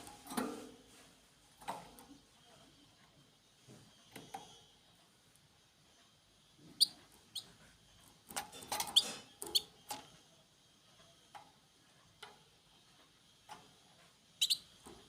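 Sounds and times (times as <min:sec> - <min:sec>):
small birds chirping: 0:01.8 - 0:15.0.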